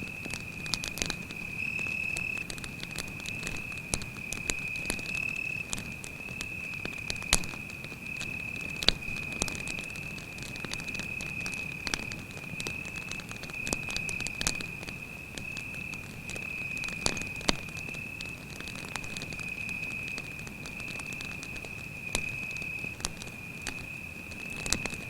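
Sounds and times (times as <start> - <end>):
campfire crackling and popping: 0.0 - 25.0
cricket trilling: 0.0 - 25.0.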